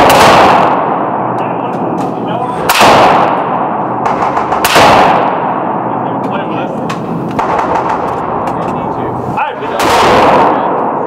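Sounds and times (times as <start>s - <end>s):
rifle shots with echo: 0.0s - 6.1s, 6.9s - 8.8s, 9.6s - 11.0s.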